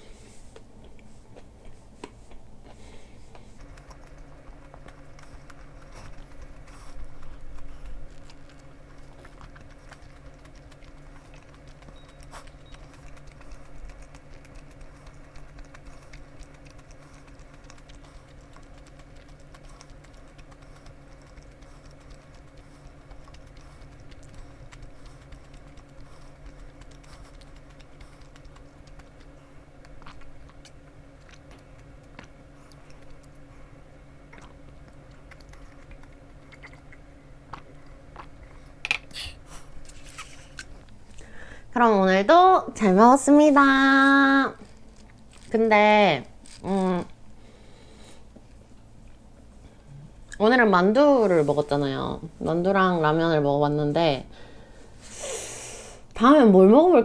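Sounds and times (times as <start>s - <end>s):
soft chewing: 0.0s - 41.8s, 42.4s - 57.0s
steady low hum: 0.0s - 57.0s.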